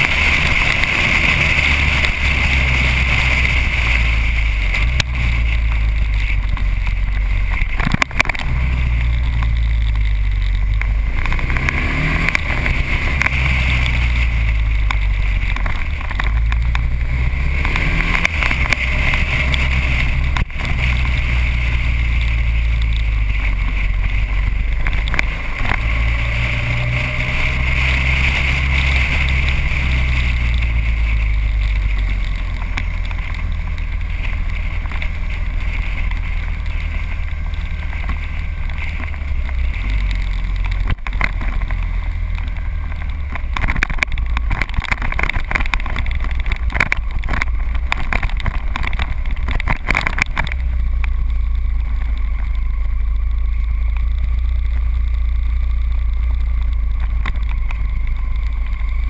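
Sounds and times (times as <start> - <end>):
wind noise on microphone: 0.0 - 55.4
motorcycle engine running: 0.0 - 59.0.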